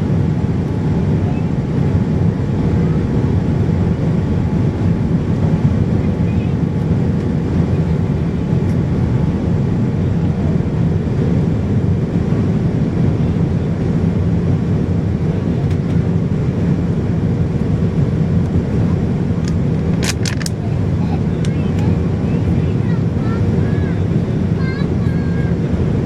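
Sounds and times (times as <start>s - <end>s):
airliner cabin roar: 0.0s - 26.0s.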